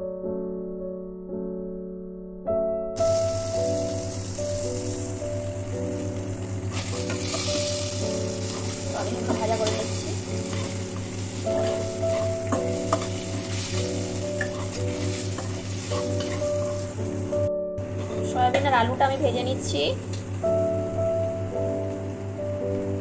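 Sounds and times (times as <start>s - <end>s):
food sizzling in hot oil: 3.0s - 22.9s.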